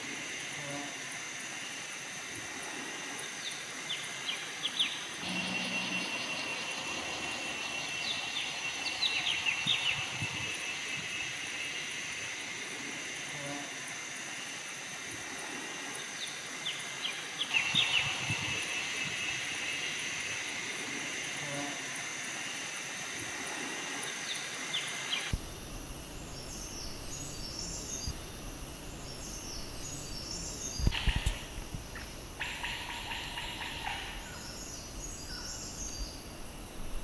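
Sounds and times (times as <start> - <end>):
high-pitched insect drone: 0.0 - 36.9.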